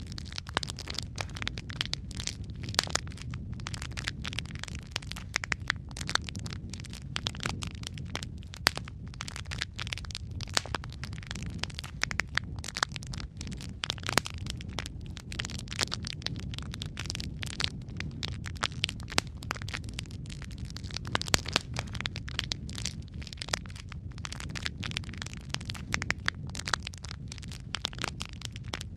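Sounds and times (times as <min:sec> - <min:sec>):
low rumble of flames: 0:00.0 - 0:28.9
wood fire crackling and popping: 0:00.0 - 0:28.9.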